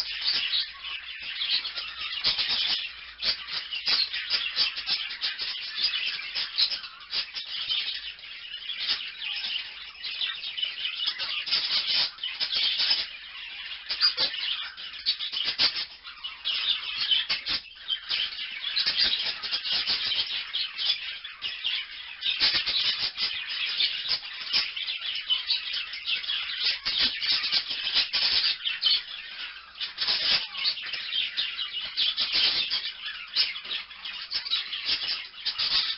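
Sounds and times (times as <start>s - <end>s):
small parrots chattering: 0.0s - 35.9s.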